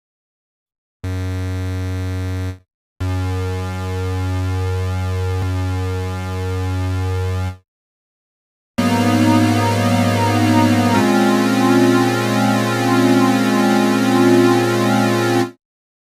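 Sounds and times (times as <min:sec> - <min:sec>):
synthesizer low notes with chorus: 0:01.1 - 0:07.6, 0:08.8 - 0:15.6.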